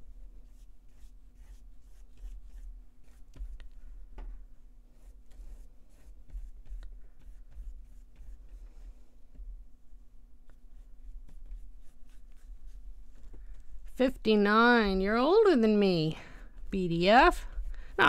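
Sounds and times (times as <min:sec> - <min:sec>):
paintbrush strokes on paper: 0:00.0 - 0:09.6, 0:10.4 - 0:18.0
steady low hum: 0:00.0 - 0:18.0.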